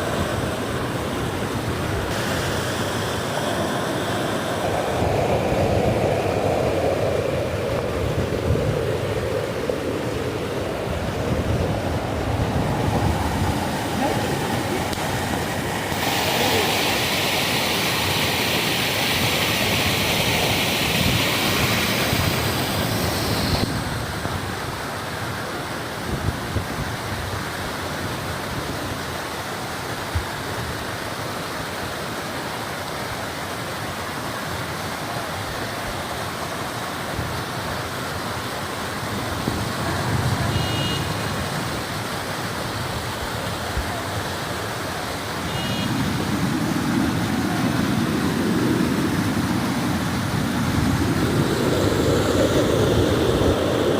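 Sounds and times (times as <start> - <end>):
rain and running water: 0.0 - 53.9.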